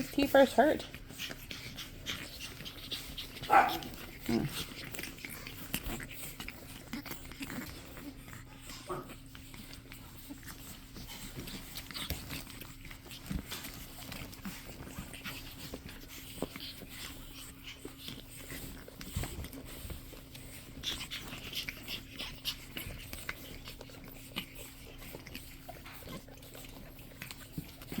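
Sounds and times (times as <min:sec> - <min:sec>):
puppy scrabbling at toys: 0:00.0 - 0:28.0
small clicks and rustles: 0:00.0 - 0:28.0.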